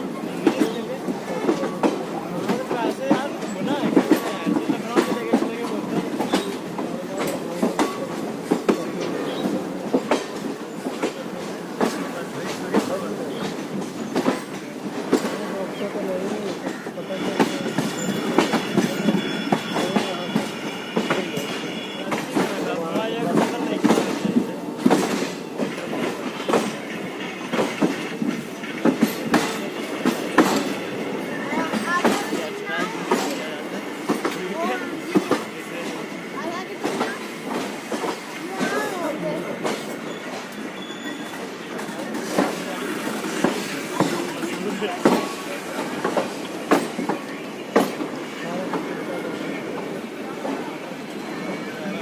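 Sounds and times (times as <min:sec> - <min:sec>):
train rumble: 0:00.0 - 0:52.0
train wheels clacking over joints: 0:00.0 - 0:52.0.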